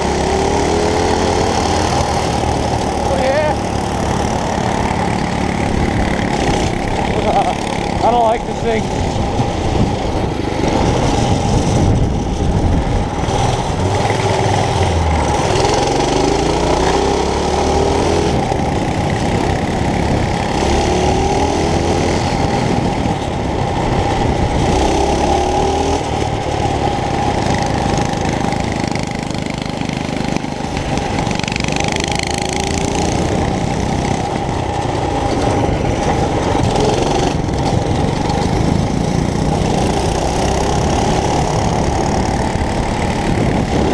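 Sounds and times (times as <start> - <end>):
small engine revving: 0.0 - 9.1, 13.0 - 23.2, 24.0 - 43.9.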